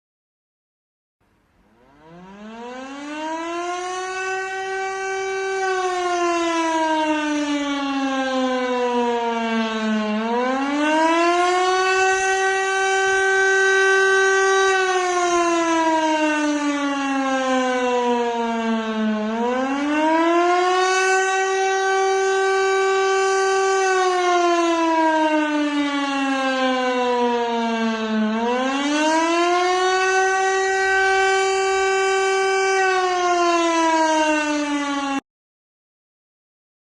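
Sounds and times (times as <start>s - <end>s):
civil defence siren wailing: 1.3s - 35.2s.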